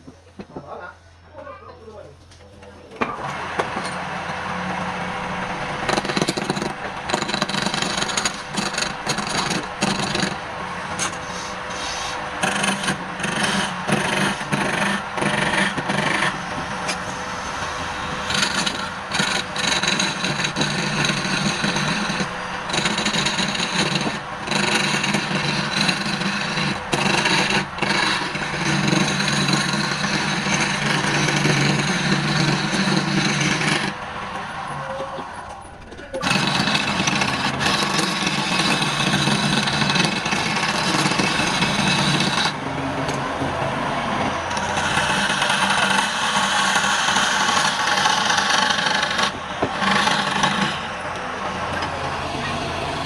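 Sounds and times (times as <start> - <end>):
lathe motor humming: 3.0 - 53.0
turning tool scraping wood: 3.0 - 53.0.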